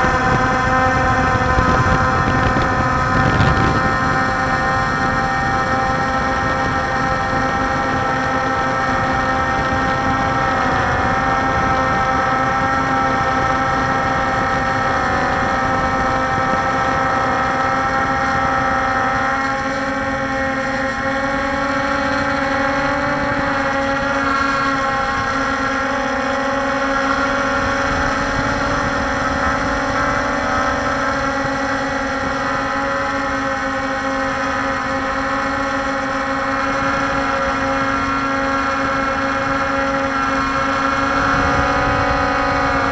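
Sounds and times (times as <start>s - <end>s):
drone motors whining: 0.0s - 42.9s
rushing wind: 0.0s - 42.9s
vibration noise: 0.0s - 42.9s.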